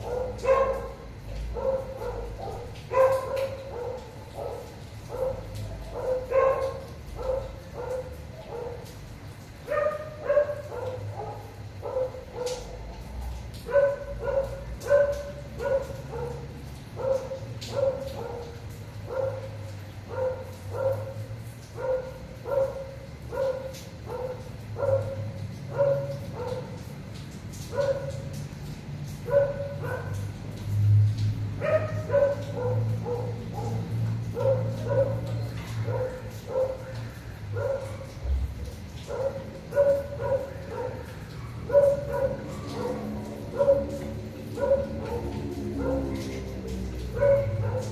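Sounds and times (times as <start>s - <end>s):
dog barking: 0.0s - 26.9s, 27.6s - 28.5s, 29.1s - 30.7s, 31.6s - 47.9s.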